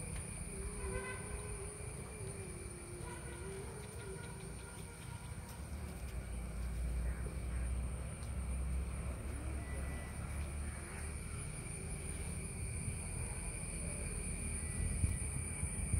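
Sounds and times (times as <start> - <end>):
low outdoor rumble: 0.0 - 15.9.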